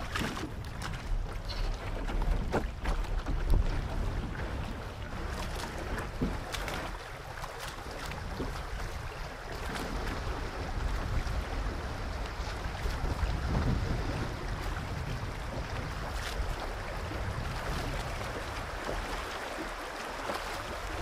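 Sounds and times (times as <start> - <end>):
paddle strokes: 0.0 - 21.0
water splashing against hull: 0.0 - 21.0
wind on microphone: 0.0 - 21.0.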